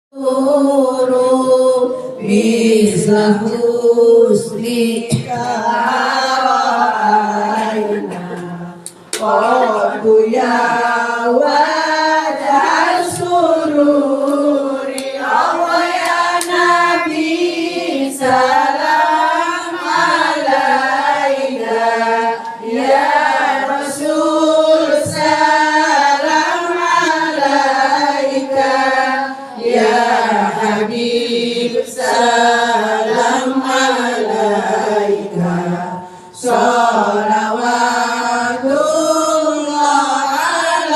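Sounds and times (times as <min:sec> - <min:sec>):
voices chanting melodic recitation: 0:00.2 - 0:40.9.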